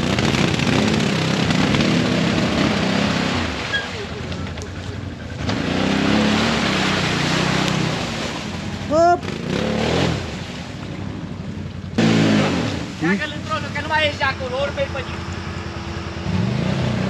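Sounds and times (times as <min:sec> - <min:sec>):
atv engine revving: 0:00.0 - 0:17.0
wheels splashing mud and water: 0:00.0 - 0:17.0.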